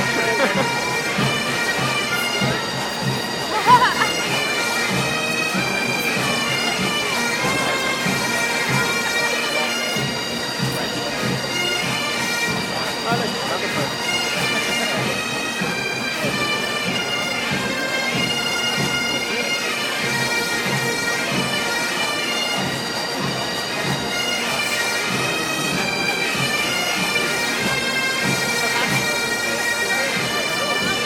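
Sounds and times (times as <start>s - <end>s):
bagpipes playing: 0.0s - 31.0s.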